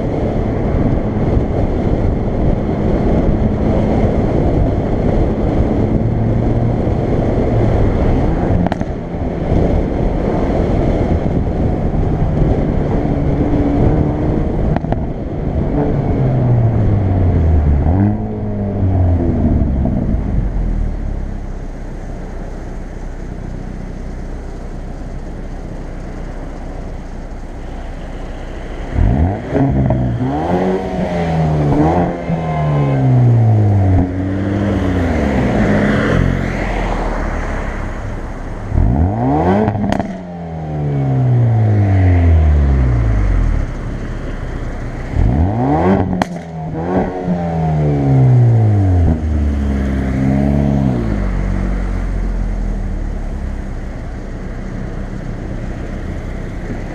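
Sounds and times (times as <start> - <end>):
car engine revving: 0.0 - 56.9
exhaust cracks: 0.0 - 56.9
road noise: 0.0 - 56.9.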